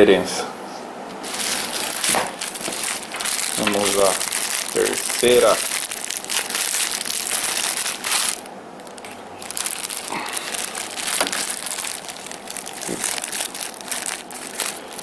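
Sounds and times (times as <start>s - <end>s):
plastic bag crinkling: 1.2s - 15.0s.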